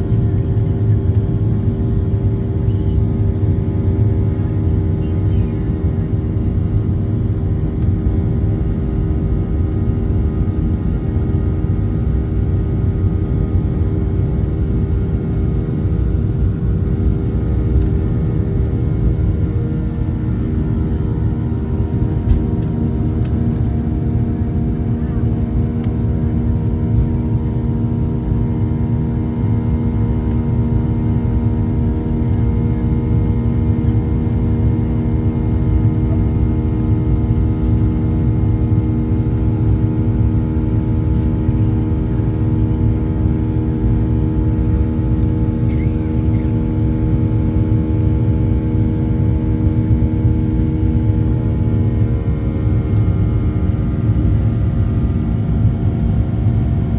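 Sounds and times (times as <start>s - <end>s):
steady humming tones: 0.0s - 56.9s.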